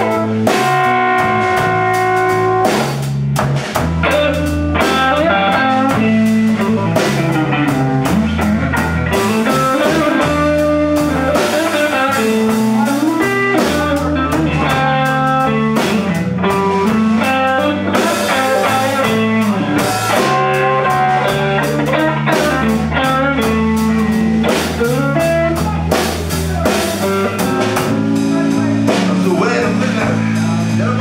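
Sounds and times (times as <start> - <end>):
bass notes: 0.0 - 31.0
drum kit: 0.0 - 31.0
electric guitar lines: 0.0 - 31.0.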